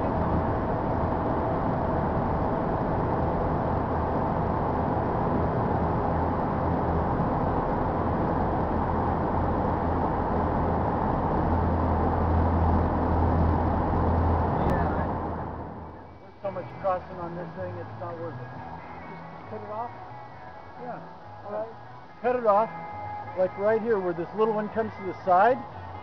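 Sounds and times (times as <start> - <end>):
car interior road and engine noise: 0.0 - 26.0.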